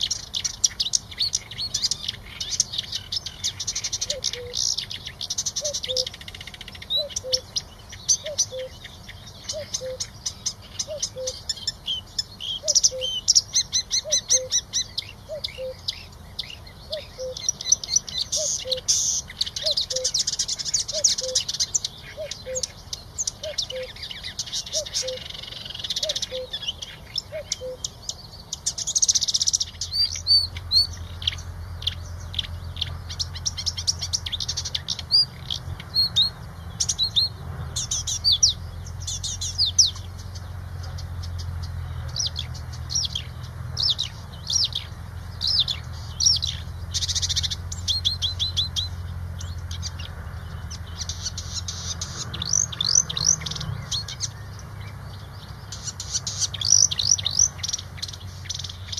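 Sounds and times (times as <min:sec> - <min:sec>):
songbird chirping and trilling: 0:00.0 - 0:58.9.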